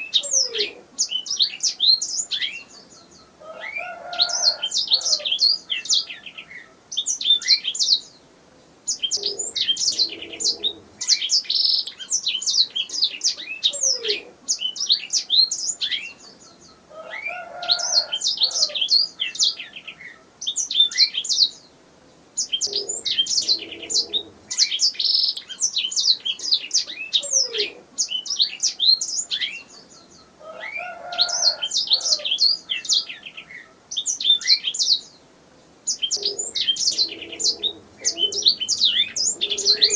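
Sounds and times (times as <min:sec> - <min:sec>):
canary singing trills: 0:00.0 - 0:08.2, 0:08.8 - 0:21.7, 0:22.4 - 0:39.9.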